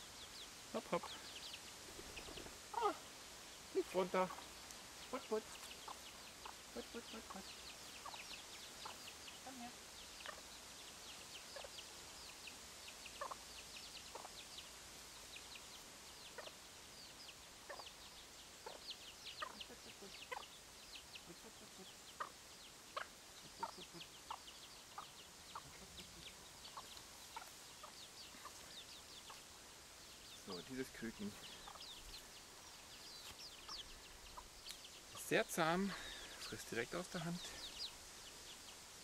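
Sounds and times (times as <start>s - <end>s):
chick peeping: 0.0s - 38.8s.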